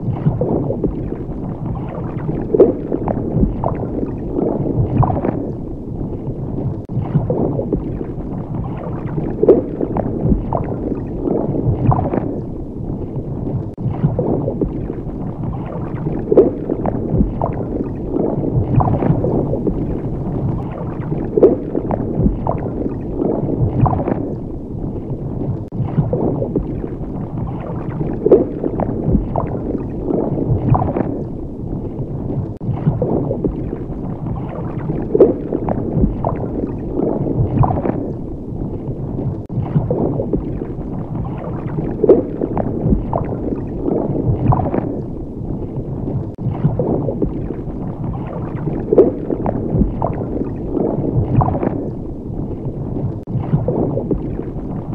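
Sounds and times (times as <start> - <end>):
bubbling gurgles: 0.0 - 54.9
underwater rumbling: 0.0 - 54.9.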